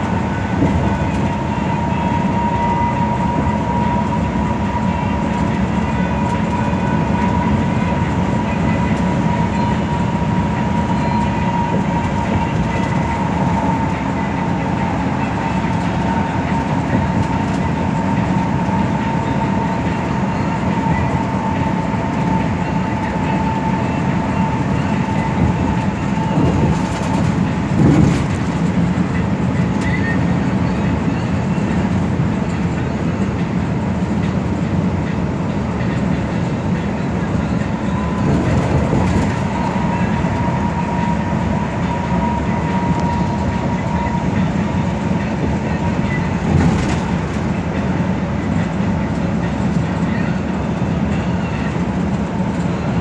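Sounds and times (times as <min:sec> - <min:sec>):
bus engine and road drone: 0:00.0 - 0:53.0.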